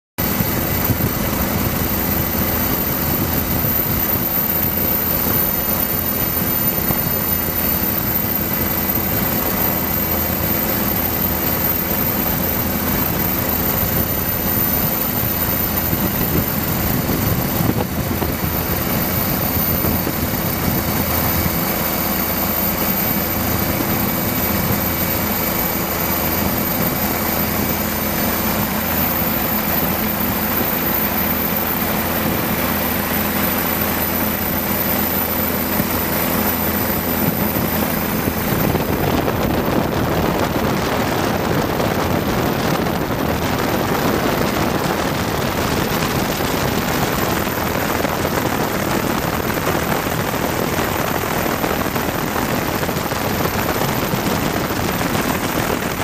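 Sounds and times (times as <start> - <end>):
helicopter turbine and rotor: 0.2 - 56.0
rushing air: 0.2 - 56.0
steady hum tones: 0.2 - 56.0.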